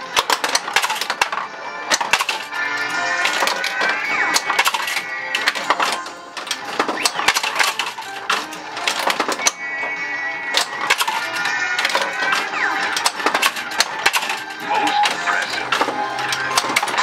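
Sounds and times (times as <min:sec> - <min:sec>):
pinball balls and flippers clacking: 0:00.0 - 0:17.0
pinball game music: 0:00.0 - 0:17.0.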